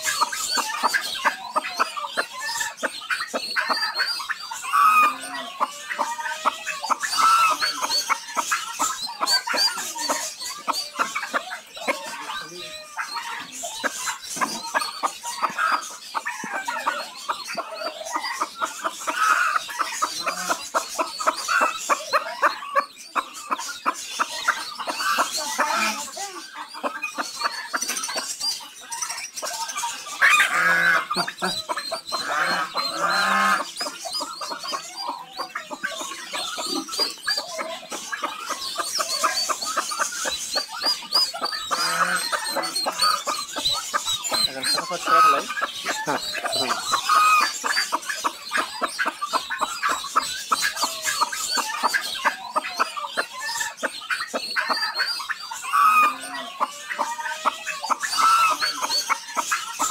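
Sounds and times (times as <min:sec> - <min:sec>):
chicks peeping: 0:00.0 - 0:59.9
hen clucking: 0:00.0 - 0:59.9.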